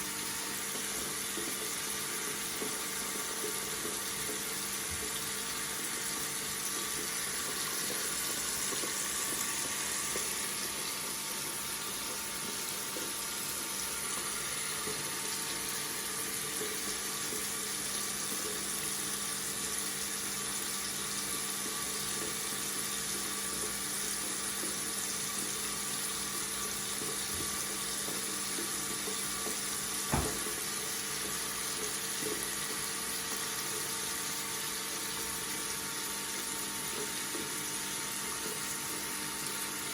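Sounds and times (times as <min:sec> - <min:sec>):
water tap running into sink: 0:00.0 - 0:39.9.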